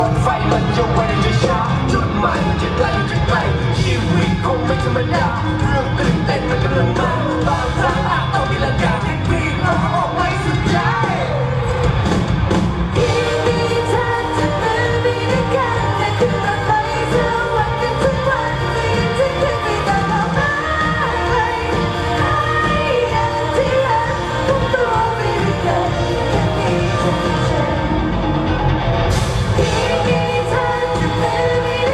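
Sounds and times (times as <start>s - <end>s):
person singing pop song: 0.0s - 12.2s, 12.9s - 31.9s
backing music: 0.0s - 31.9s.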